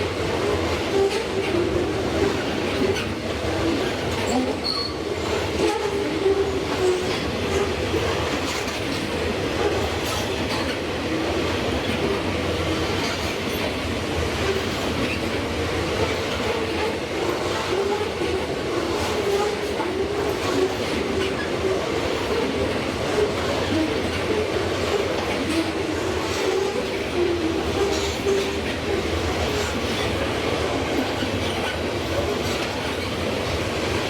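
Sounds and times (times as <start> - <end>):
train wheels rattling on rails: 0.0 - 34.0.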